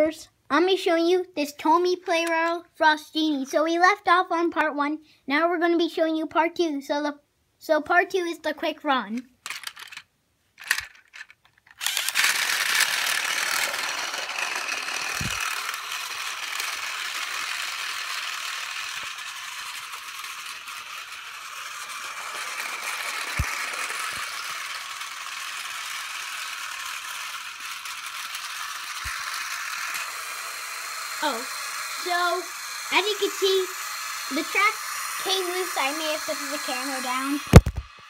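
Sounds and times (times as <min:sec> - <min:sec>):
toy train motors rattling: 0:01.4 - 0:04.0, 0:09.0 - 0:38.0.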